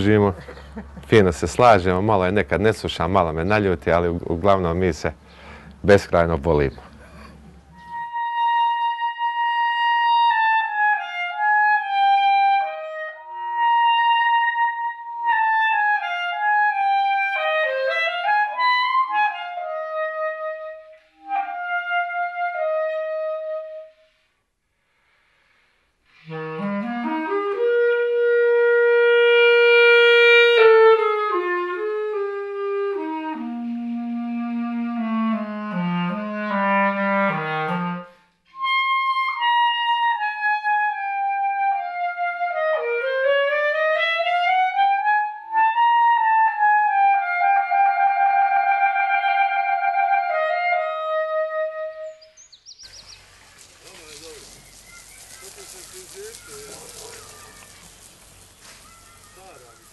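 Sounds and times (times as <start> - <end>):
solo clarinet melody: 7.7 - 24.2, 26.1 - 59.9.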